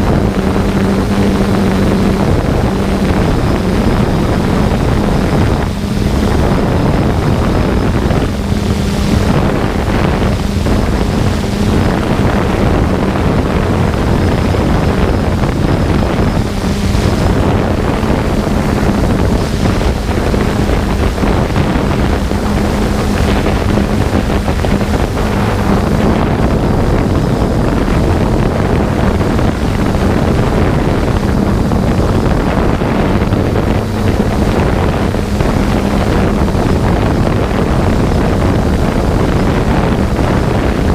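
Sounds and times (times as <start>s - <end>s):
drone motors humming: 0.0s - 40.9s
wind buffeting microphone: 0.0s - 40.9s.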